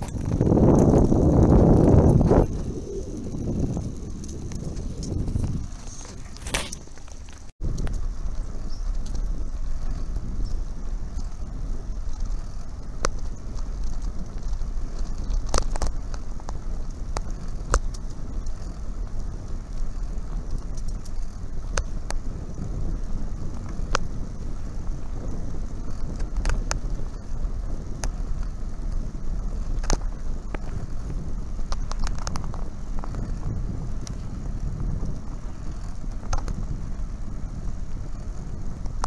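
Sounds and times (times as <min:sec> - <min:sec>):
sharp clicks and rattles: 0:00.0 - 0:22.8, 0:23.4 - 0:37.1
rumble of wind and tyres: 0:00.0 - 0:39.0.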